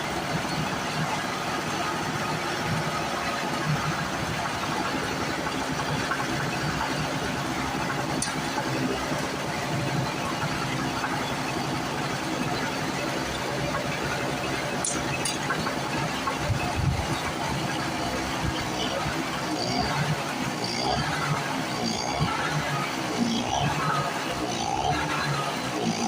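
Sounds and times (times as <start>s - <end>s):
portable generator engine running: 0.0s - 26.0s.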